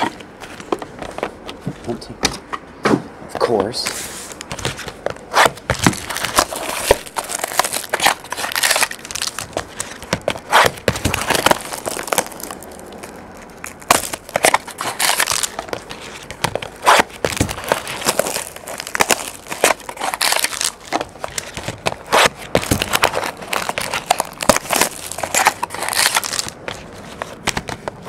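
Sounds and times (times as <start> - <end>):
plastic wrap crinkling and tearing: 4.3 - 28.0.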